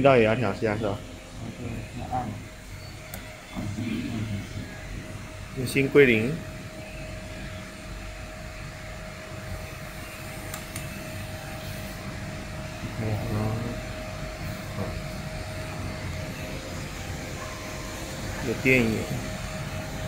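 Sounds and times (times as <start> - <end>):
machine humming and whining: 0.0 - 20.0.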